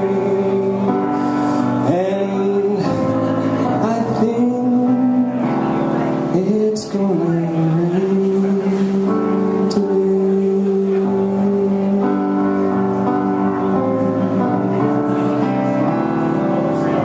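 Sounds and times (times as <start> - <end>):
person singing long notes: 0.0 - 17.0
slow piano ballad: 0.0 - 17.0.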